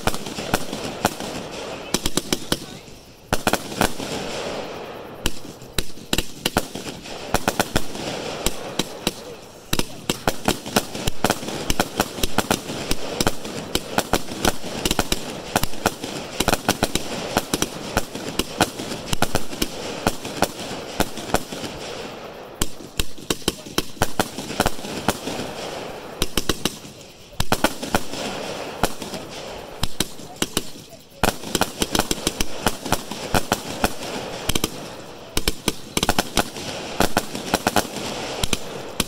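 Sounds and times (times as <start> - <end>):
fireworks banging: 0.0 - 39.0
fireworks crackling hiss: 0.0 - 39.0.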